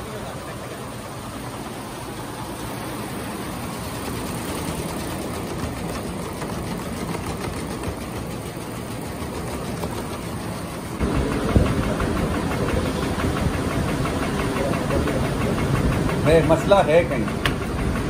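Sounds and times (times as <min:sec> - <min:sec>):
embroidery machine rattling: 0:00.0 - 0:18.0.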